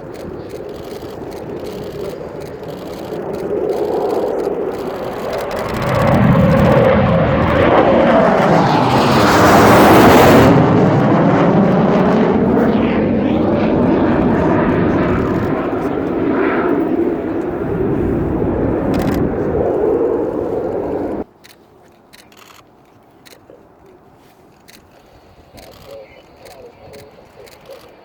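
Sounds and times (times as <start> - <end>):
jet flying past: 0.0 - 21.3, 24.7 - 28.0.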